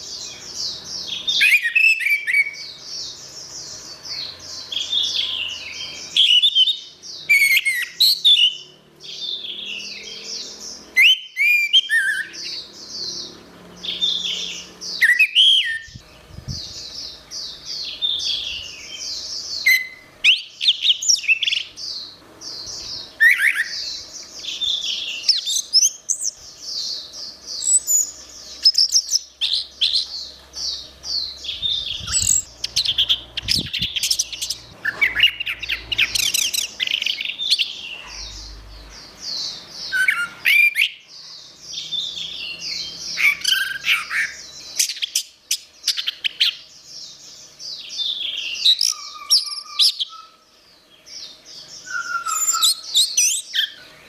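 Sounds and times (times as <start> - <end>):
thrush singing chirps and trills: 0.0 - 54.0.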